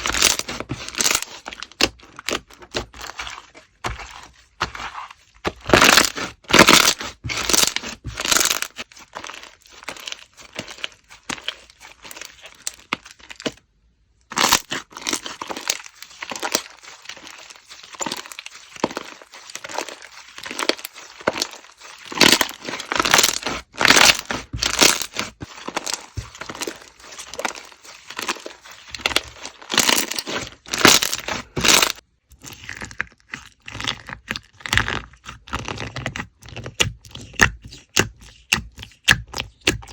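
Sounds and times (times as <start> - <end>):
slime squishing by hand: 0.0 - 39.9.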